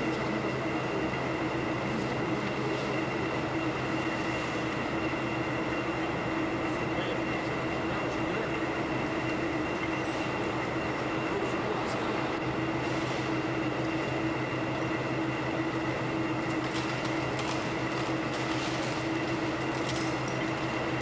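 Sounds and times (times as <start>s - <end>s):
high machinery whine: 0.0s - 21.0s
low machinery hum: 0.0s - 21.0s
mechanical rumble: 0.0s - 21.0s.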